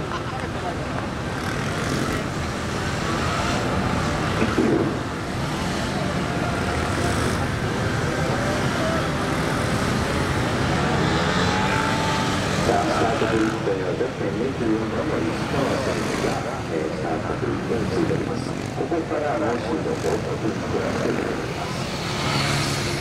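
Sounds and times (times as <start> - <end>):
motorcycle engine revving: 1.1 - 23.0.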